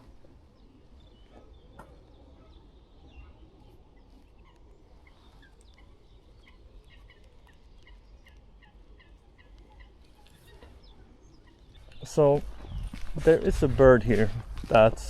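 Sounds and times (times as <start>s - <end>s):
birds dawn chorus: 0.0s - 14.8s.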